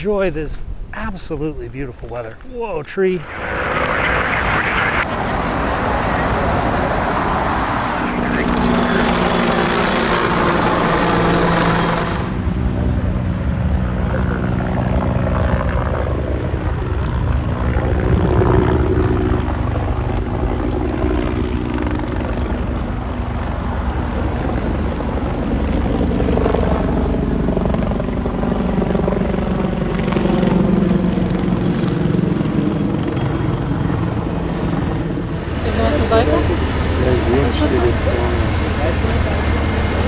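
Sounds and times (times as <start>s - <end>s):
helicopter rotor beating: 3.1s - 40.0s
helicopter engine drone: 3.2s - 40.0s.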